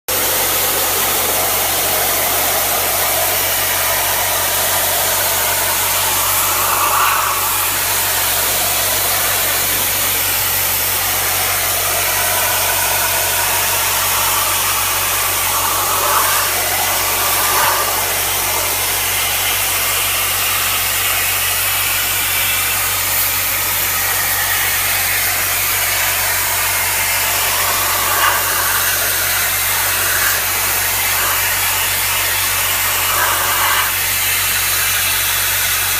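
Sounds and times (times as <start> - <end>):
pressure washer hissing spray: 0.1 - 35.9
pump motor humming: 0.1 - 35.9.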